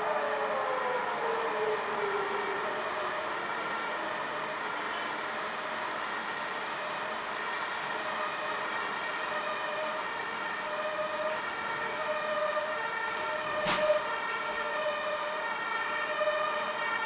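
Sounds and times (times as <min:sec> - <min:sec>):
distant siren steady tone: 0:00.0 - 0:17.0.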